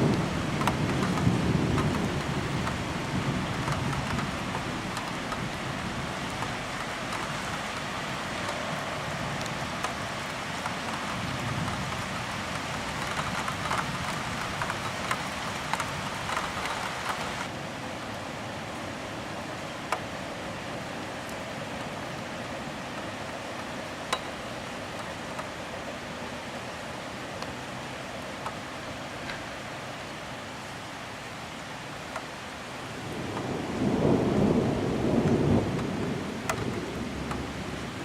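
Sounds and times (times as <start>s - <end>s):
rain hiss: 0.0s - 38.0s
sharp ticks of raindrops: 0.0s - 38.0s.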